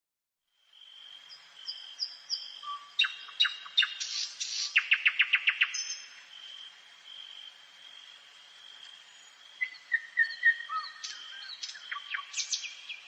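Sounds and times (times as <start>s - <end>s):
nightingale singing: 0.8s - 7.4s, 8.6s - 13.0s.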